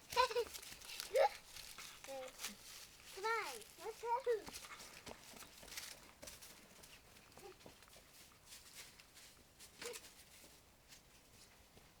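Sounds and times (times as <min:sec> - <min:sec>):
patter of running feet: 0:00.0 - 0:12.0.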